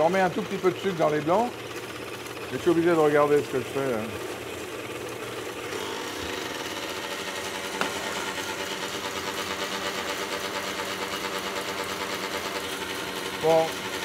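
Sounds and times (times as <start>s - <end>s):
stand mixer whisk beating: 0.0s - 14.0s.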